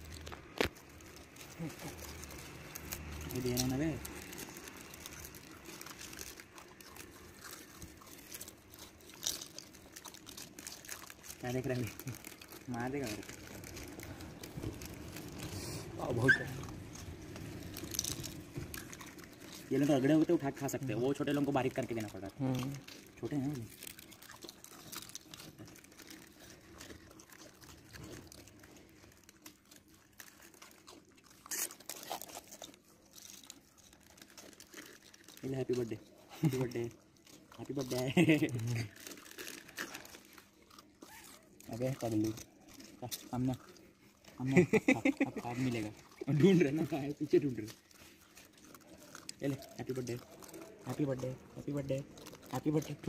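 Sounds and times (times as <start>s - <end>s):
dogs crunching dry biscuits: 0.0s - 53.0s.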